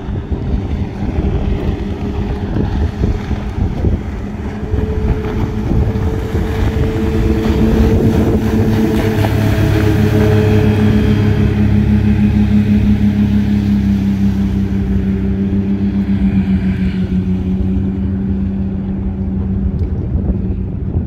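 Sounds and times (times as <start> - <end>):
motorboat engines droning: 0.0 - 21.0
rushing water: 0.0 - 21.0.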